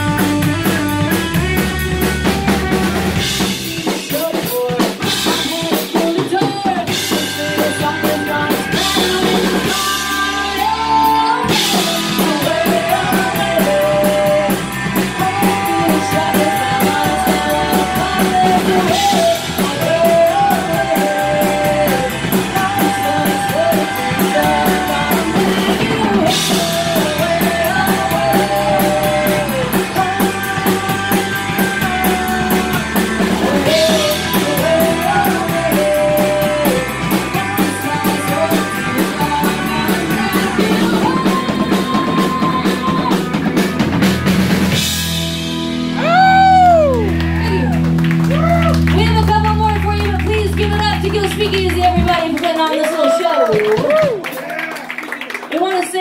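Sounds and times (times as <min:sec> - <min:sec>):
bass guitar: 0:00.0 - 0:55.2
drum kit: 0:00.0 - 0:55.5
electric guitar: 0:00.0 - 0:56.0.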